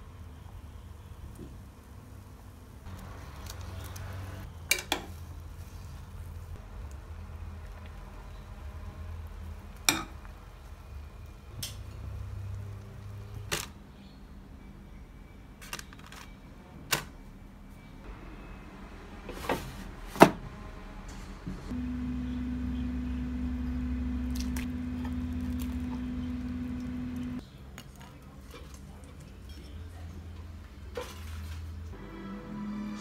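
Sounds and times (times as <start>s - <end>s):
low steady hum: 0.0s - 30.8s.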